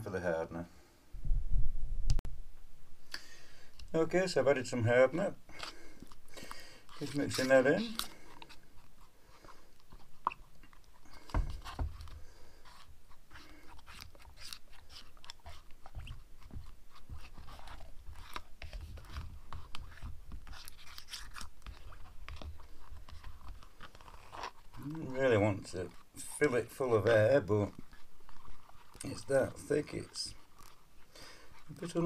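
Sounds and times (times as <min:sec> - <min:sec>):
stick stirring rubber in plastic tub: 0:03.7 - 0:32.0.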